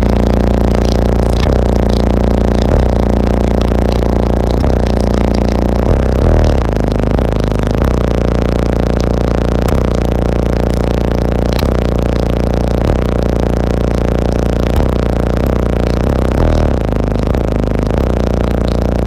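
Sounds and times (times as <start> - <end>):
distorted rap bass from subwoofers: 0.0 - 19.0.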